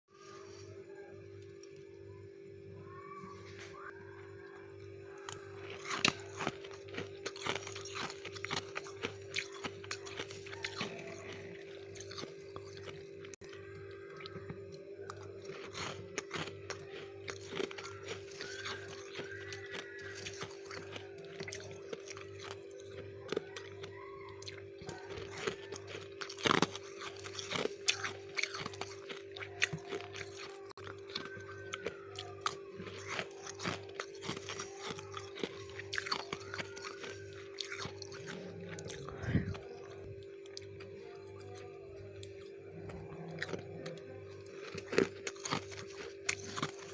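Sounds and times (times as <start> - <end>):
steady low hum: 0.1 - 46.9
squeaky crunching of frost: 2.9 - 41.6, 42.6 - 46.9.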